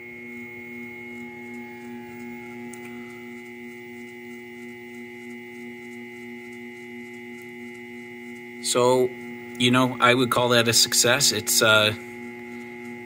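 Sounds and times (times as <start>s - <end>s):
mill spindle electrical whine: 0.0s - 13.0s.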